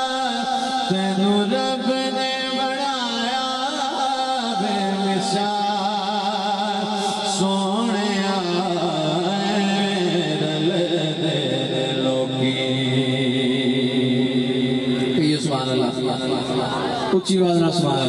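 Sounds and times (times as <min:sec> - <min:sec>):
man singing through loudspeakers: 0:00.0 - 0:18.0.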